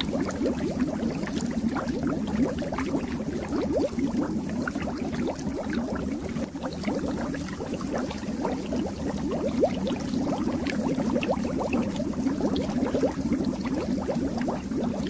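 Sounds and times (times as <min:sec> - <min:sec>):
fish tank water bubbling: 0:00.0 - 0:15.0.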